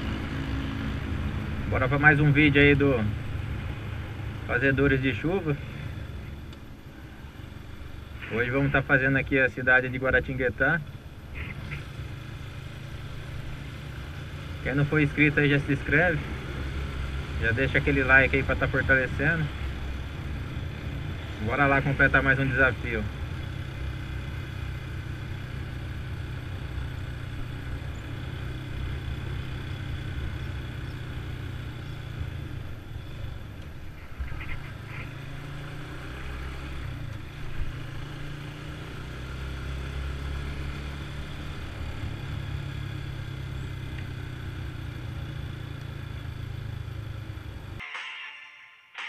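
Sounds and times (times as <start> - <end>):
motorcycle engine running: 0.0 - 47.8
road and wind noise: 0.0 - 47.8.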